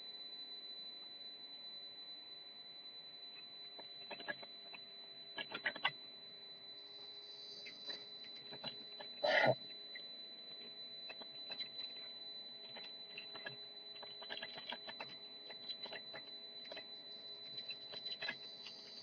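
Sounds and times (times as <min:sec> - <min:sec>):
steady high-pitched whine: 0:00.0 - 0:19.0.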